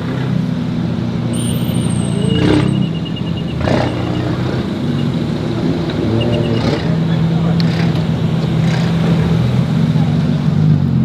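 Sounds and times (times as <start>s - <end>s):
car engine idling: 0.4s - 11.0s.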